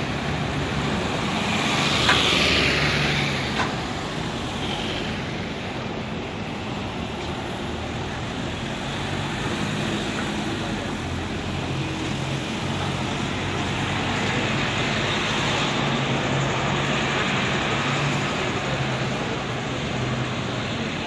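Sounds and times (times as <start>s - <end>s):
bus diesel engine passing: 0.0s - 21.0s
street traffic noise: 0.0s - 21.0s.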